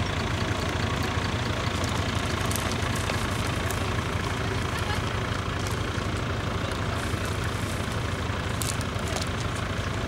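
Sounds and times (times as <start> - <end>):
off-road engine running: 0.0 - 10.0.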